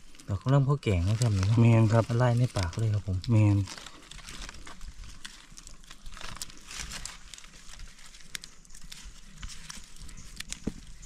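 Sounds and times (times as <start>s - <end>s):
rustling forest litter and twigs: 0.0s - 11.0s.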